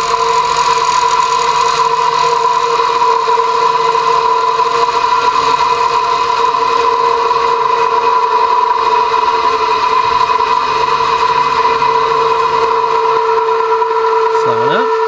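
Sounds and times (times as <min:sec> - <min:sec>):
bench grinder coasting down whine: 0:00.0 - 0:15.0.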